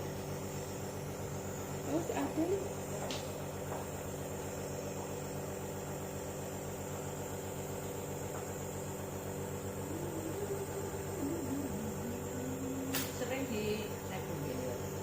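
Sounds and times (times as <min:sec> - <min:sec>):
small appliance motor hum: 0:00.0 - 0:15.0.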